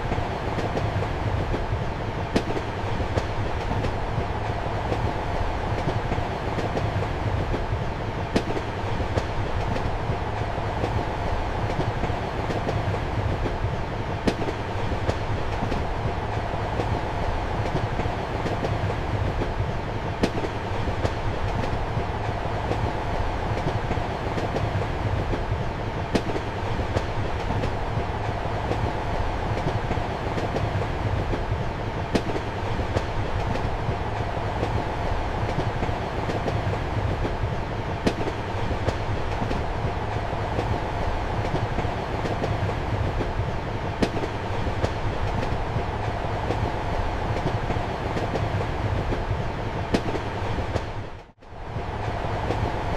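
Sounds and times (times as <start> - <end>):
train rumble inside compartment: 0.0 - 52.9.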